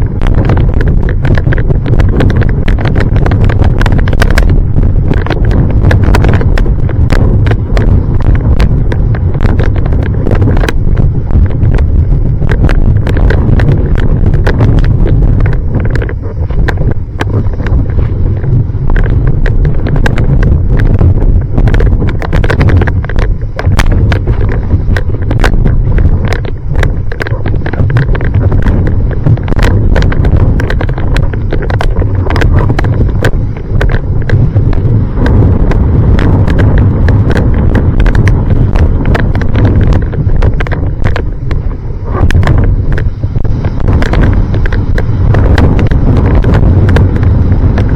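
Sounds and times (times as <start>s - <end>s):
strong wind buffeting microphone: 0.0s - 47.9s.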